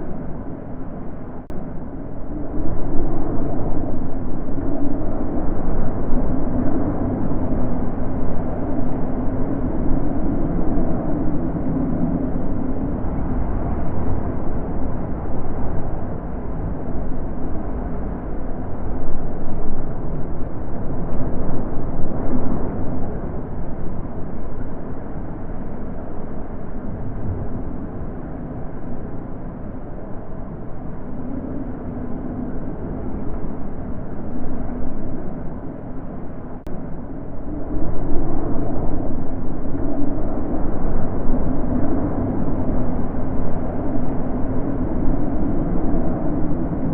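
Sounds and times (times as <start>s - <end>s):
wind blowing in gusts: 0.0s - 46.9s.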